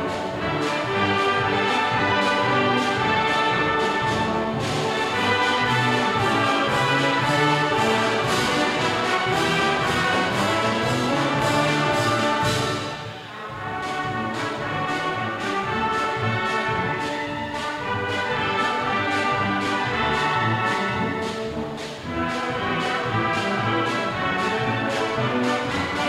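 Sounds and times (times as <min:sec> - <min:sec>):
brass band playing a hymn: 0:00.0 - 0:26.0
drum or cymbal beat: 0:00.0 - 0:26.0.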